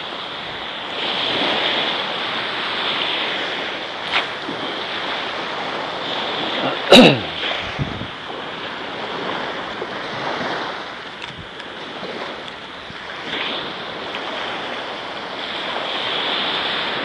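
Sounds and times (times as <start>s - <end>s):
small waves washing on beach: 0.0s - 17.0s.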